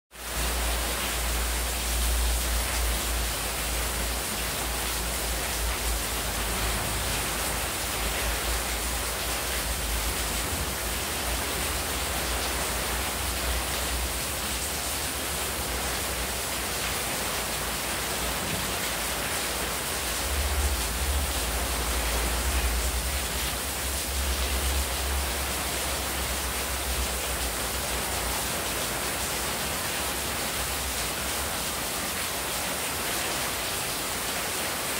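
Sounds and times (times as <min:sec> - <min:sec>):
heavy rain hissing: 0:00.2 - 0:34.9
water splashing on tiled floor: 0:00.3 - 0:34.9.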